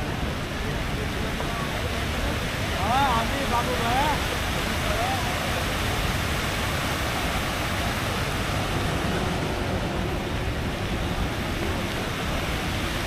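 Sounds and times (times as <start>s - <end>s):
fountain water jets splashing: 0.0s - 13.0s.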